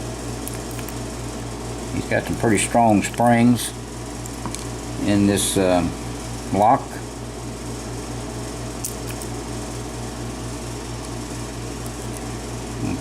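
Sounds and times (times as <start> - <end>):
pulsing mechanical hum: 0.0 - 13.0.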